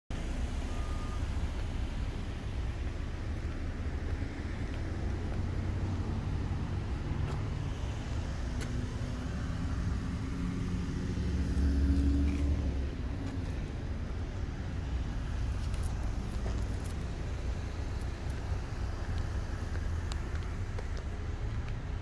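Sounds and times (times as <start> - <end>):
motor vehicle rumbling: 0.1 - 22.0.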